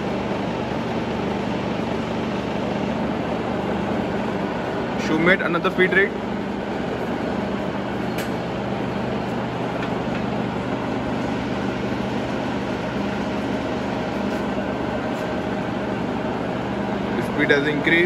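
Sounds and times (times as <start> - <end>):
milling machine feed drive hum: 0.0 - 18.0.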